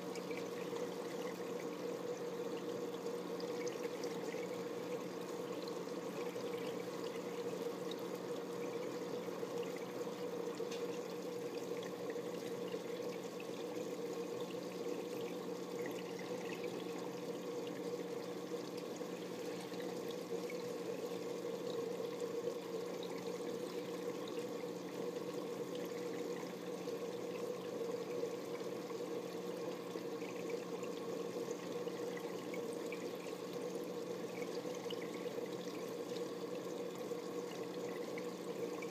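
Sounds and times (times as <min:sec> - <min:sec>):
low steady hum: 0:00.0 - 0:38.9
water trickling and pouring: 0:00.0 - 0:38.9.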